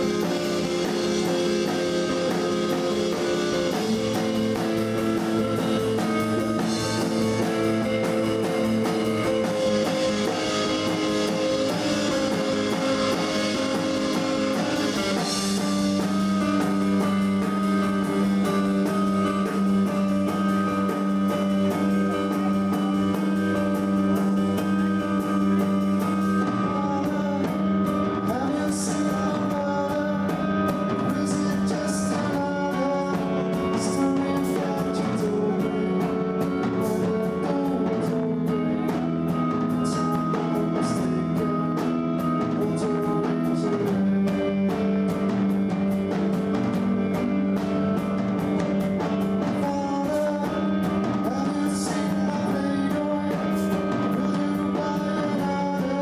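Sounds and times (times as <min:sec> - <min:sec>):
drum kit: 0:00.0 - 0:56.0
electric guitar chords: 0:00.0 - 0:56.0.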